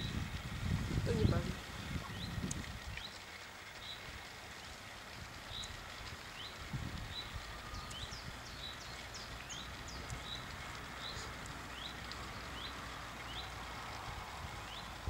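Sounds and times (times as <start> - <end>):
small birds chirping: 1.1 - 4.8, 5.4 - 13.7, 14.6 - 15.0.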